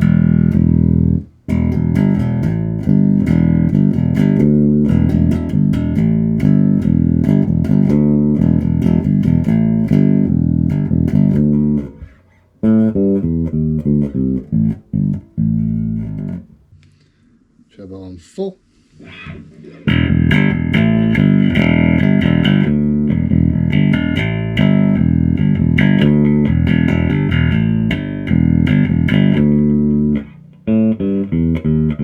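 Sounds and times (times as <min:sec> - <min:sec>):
electric bass guitar riff: 0:00.0 - 0:16.7, 0:19.8 - 0:32.0.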